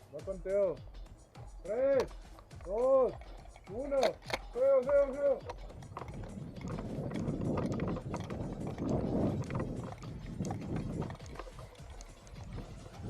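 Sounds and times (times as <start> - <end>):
gear clicking and rattling: 0.0 - 13.0
quick footsteps: 0.8 - 13.0.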